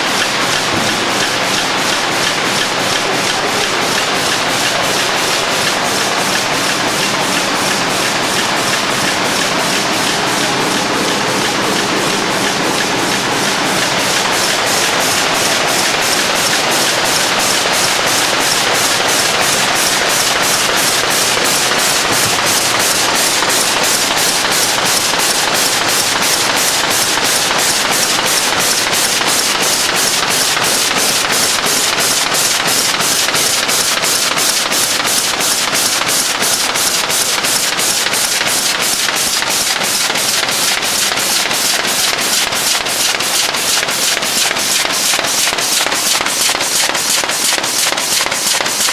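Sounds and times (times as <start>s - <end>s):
loud steady machine din: 0.0s - 48.9s
fast even clicking: 0.1s - 48.9s.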